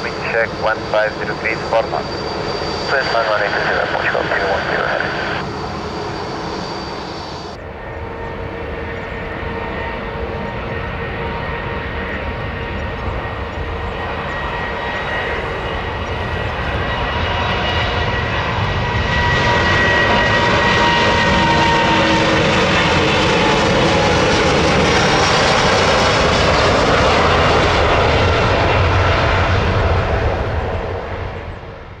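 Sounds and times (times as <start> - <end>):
jet engines passing by: 0.0 - 32.0.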